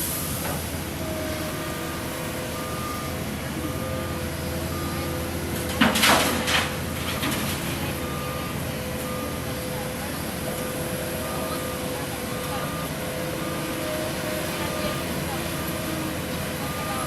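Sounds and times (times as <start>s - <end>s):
heavy vehicle engine running: 0.0s - 17.0s
reversing alarm beeping: 1.1s - 5.6s, 6.2s - 17.0s.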